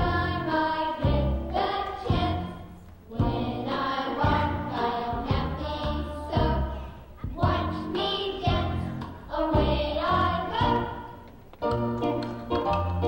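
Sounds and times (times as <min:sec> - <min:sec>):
song with singing and beat: 0:00.0 - 0:11.4.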